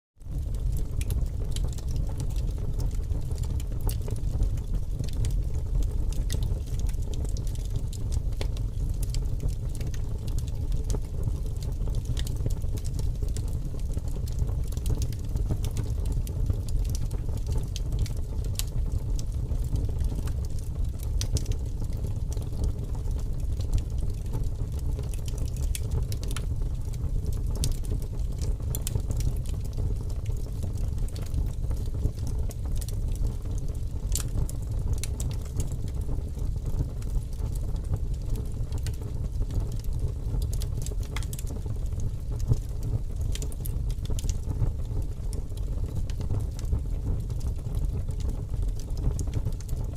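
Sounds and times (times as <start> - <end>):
low fire rumble: 0.2 - 49.9
fire crackling and popping: 0.3 - 49.9.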